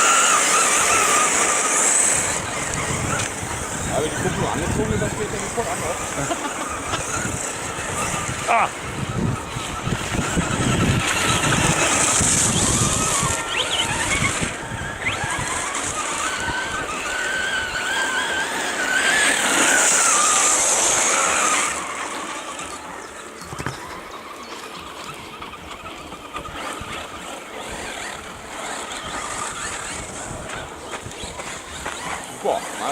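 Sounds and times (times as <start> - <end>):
electric motor whine: 0.0 - 32.9
tyre and ground noise: 0.0 - 32.9.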